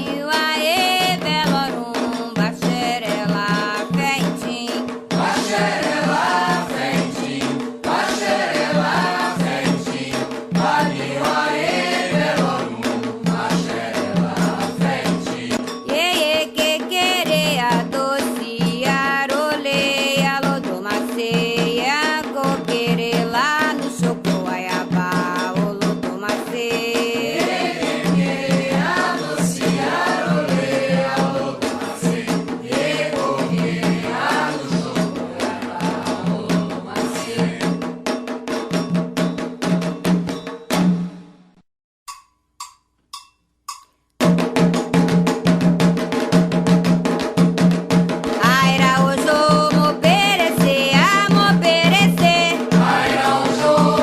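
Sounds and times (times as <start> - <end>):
voices singing a chant: 0.0 - 37.9, 48.4 - 54.0
drums: 0.0 - 54.0
rattling percussion: 0.0 - 54.0.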